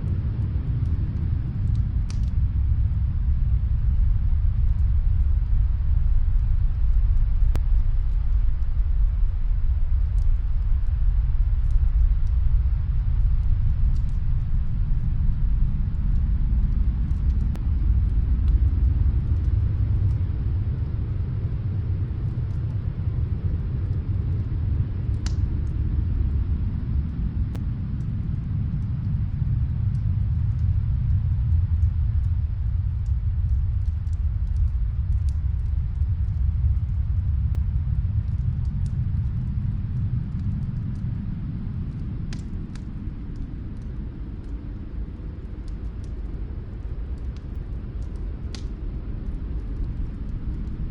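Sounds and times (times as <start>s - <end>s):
faint fireplace crackles: 0.0s - 50.9s
snowstorm wind rumble: 0.0s - 50.9s.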